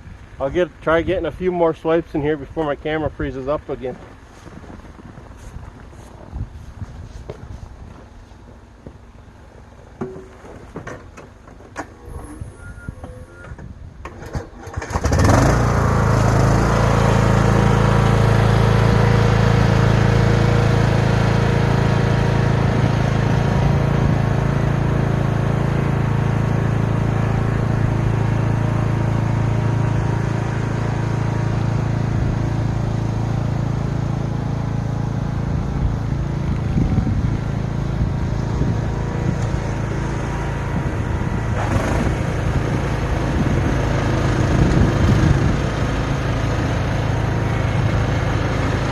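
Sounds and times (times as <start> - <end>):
lawn tractor snowblower engine: 0.0 - 13.4, 14.0 - 48.9.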